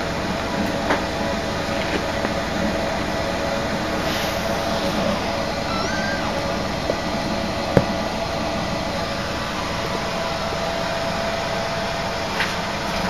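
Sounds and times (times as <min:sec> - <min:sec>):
fan whooshing: 0:00.0 - 0:13.0.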